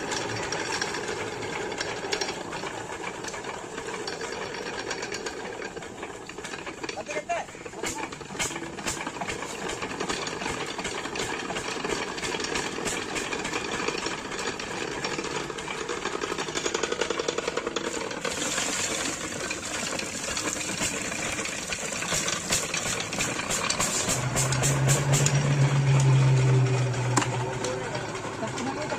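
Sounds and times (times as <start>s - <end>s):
diesel engine knocking steadily: 0.0s - 28.9s
water gushing from pump: 0.0s - 28.9s.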